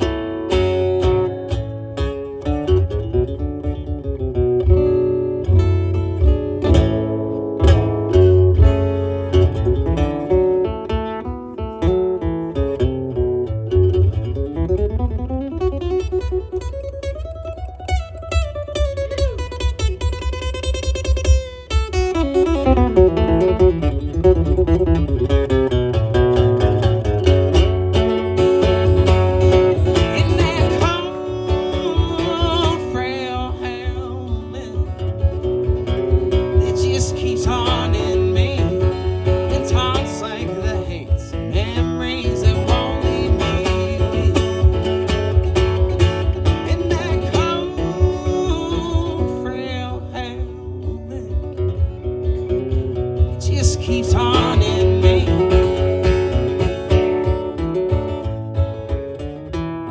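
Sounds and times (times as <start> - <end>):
acoustic band playing a waltz: 0.0 - 17.1, 17.9 - 59.9
bass: 0.0 - 59.9
sliding lead melody line: 0.0 - 59.9
strummed acoustic guitar: 0.0 - 59.9.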